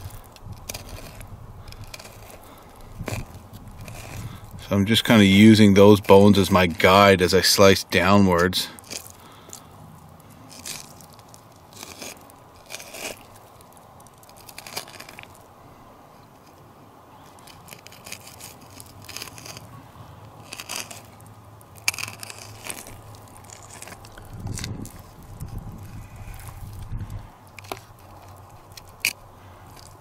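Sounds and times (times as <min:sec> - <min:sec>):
faint bone crunches and scrapes: 0:00.0 - 0:30.0.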